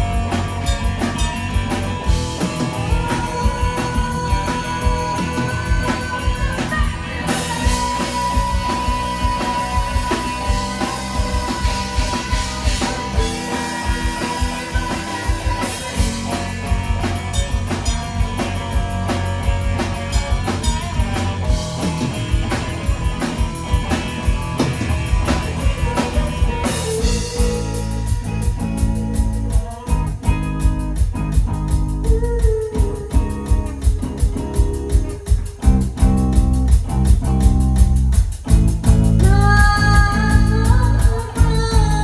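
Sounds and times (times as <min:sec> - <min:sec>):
guitar long held notes: 0:00.0 - 0:42.0
live rock band playing: 0:00.0 - 0:42.0.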